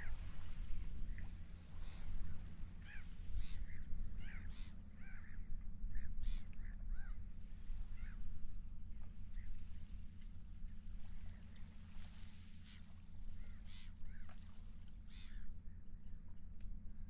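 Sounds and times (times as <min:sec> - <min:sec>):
wind and sea rumble: 0:00.0 - 0:17.0.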